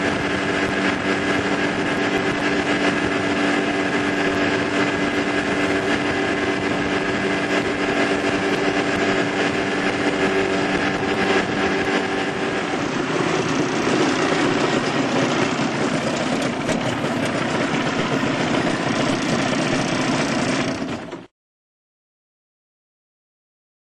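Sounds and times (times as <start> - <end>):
rushing water: 0.0 - 21.0
wind noise: 0.0 - 21.1
small boat motor running: 0.0 - 21.3.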